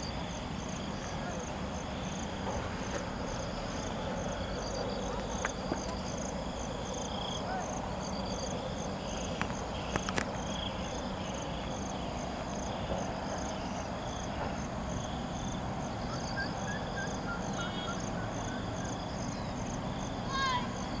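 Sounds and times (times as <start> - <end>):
insects trilling in pulses: 0.0 - 21.0.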